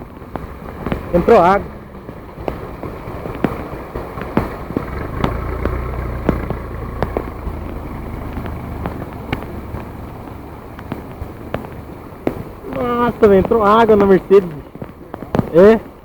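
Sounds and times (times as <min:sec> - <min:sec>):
heavy rain falling: 0:00.0 - 0:16.0
low vehicle engine rumble: 0:00.0 - 0:16.0
raindrops ticking near microphone: 0:00.0 - 0:16.0.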